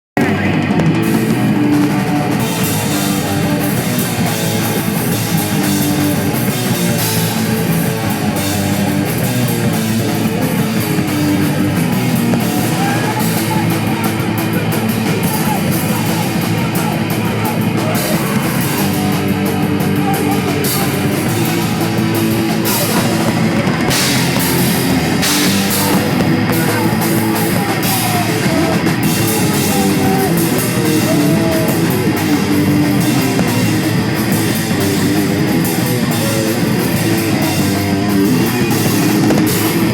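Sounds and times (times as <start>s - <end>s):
heavy metal band playing: 0.2s - 39.9s.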